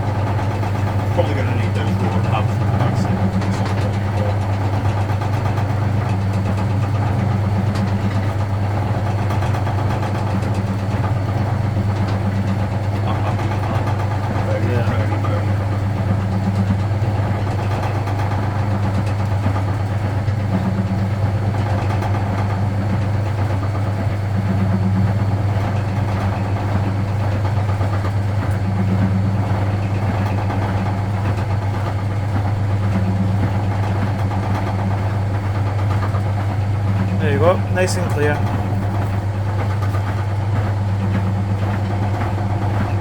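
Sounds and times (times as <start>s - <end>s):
washing machine motor hum: 0.0s - 43.0s.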